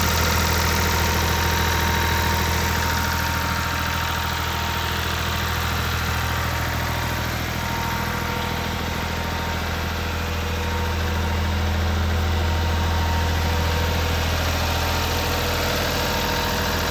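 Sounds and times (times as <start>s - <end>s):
tractor diesel engine idling: 0.0s - 16.9s.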